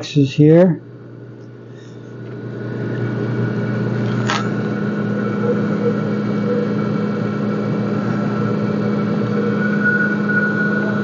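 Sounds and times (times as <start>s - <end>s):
engine-room machinery hum: 0.0s - 11.0s.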